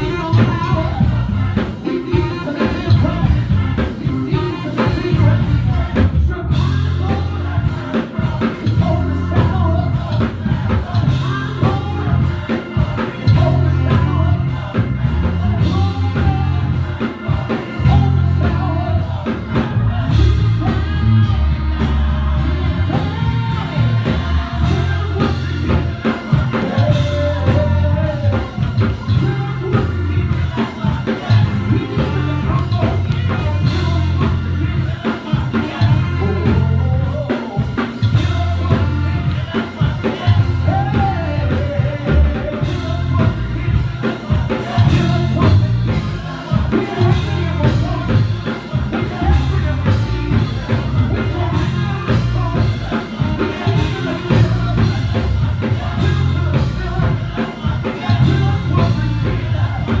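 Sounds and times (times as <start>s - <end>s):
drum kit: 0.0s - 60.0s
heavy bass line: 0.0s - 60.0s
singing: 0.0s - 60.0s
worship band playing: 0.0s - 60.0s.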